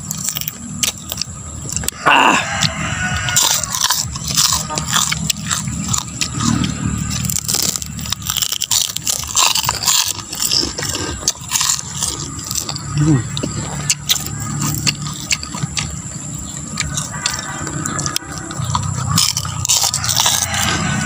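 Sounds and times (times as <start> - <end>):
people chewing crispy food: 0.0 - 21.0
steady low hum: 0.0 - 21.0.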